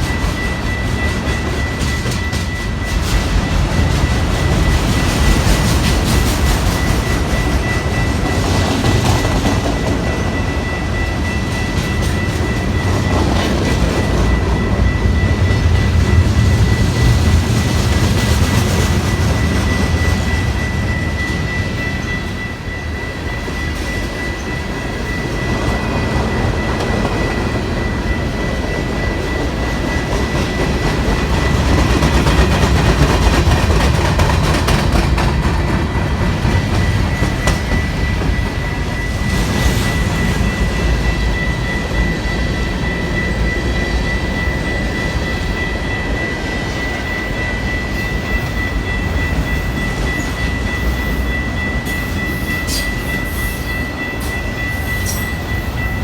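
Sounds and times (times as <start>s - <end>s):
steady high-pitched tone: 0.0s - 56.0s
train passing on rails: 0.0s - 56.0s.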